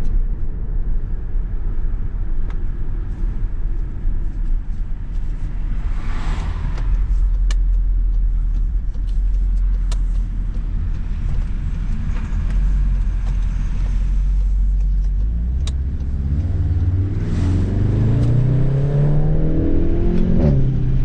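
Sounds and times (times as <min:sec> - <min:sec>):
car engine rumbling: 0:00.0 - 0:21.0
road noise: 0:00.0 - 0:21.0.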